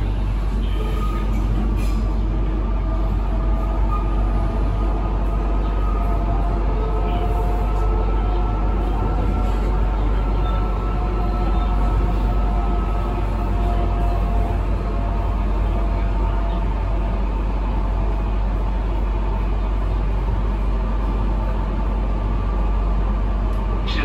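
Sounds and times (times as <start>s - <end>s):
electric train rumble from inside: 0.0s - 24.0s.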